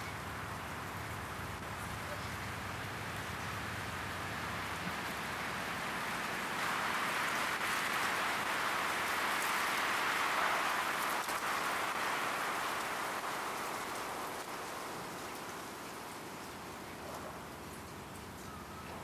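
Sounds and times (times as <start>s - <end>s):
wind gusting through trees: 0.0s - 19.0s.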